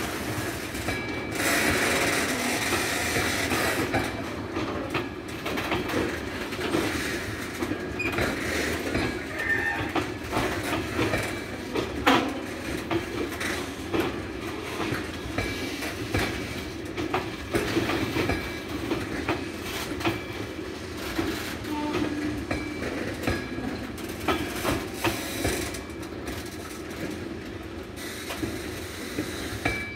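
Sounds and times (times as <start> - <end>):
train wheels clattering over rail joints: 0.0 - 29.9.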